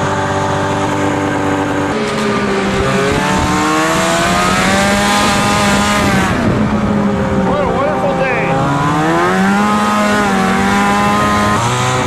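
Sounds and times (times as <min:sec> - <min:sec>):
snowmobile engine speeding up: 0:00.0 - 0:12.0.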